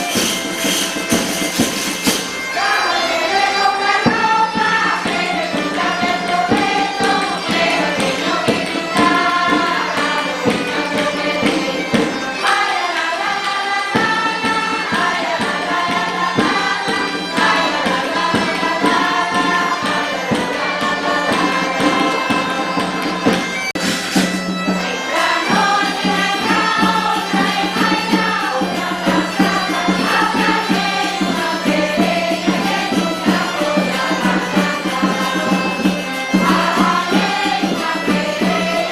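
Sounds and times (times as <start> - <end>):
folk melody: 0.0 - 38.9
regular percussion: 0.0 - 38.9.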